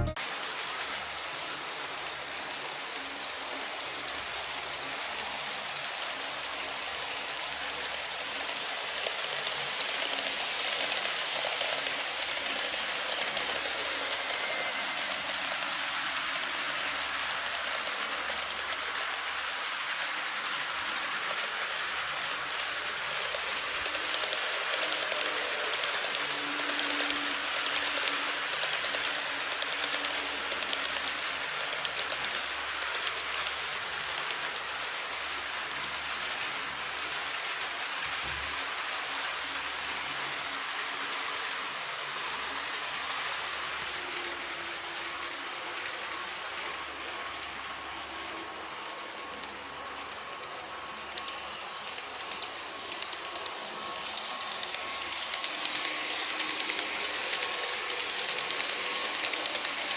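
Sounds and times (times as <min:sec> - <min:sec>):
model train wheels clicking: 0:00.0 - 0:59.9
faint steady whine: 0:06.3 - 0:37.6, 0:41.8 - 0:59.9.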